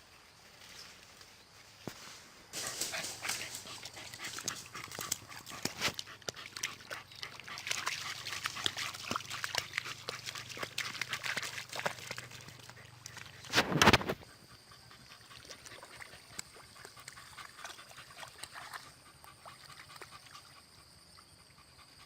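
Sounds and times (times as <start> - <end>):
dogs: 2.6 - 22.0.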